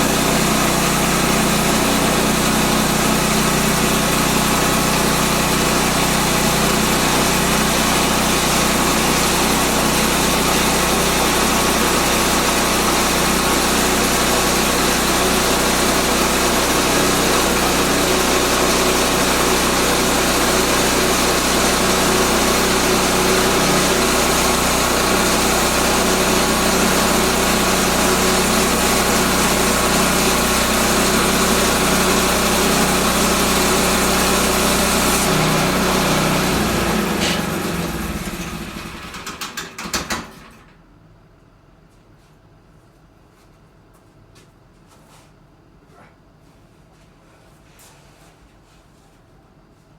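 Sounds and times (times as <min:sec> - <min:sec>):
sawmill gas engine running: 0:00.0 - 0:40.6.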